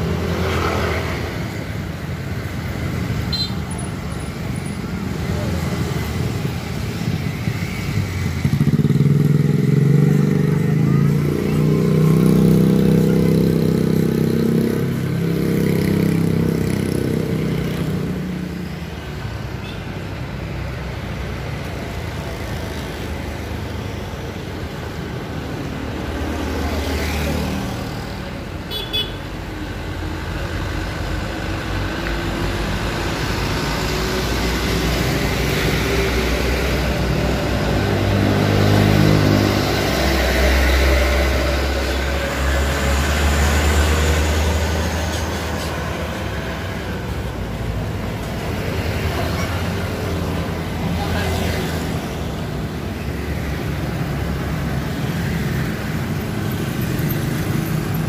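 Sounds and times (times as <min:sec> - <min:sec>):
diesel trucks passing: 0:00.0 - 0:58.0
motorcycles passing: 0:00.0 - 0:58.0.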